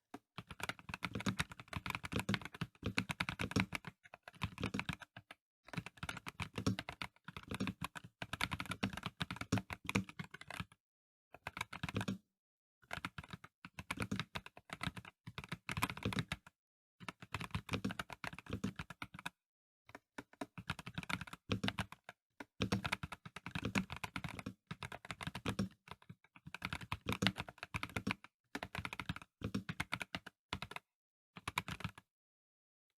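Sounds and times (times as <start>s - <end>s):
mechanical keyboard typing: 0.4s - 10.7s, 11.4s - 12.2s, 12.9s - 19.3s, 20.3s - 30.8s, 31.4s - 32.0s.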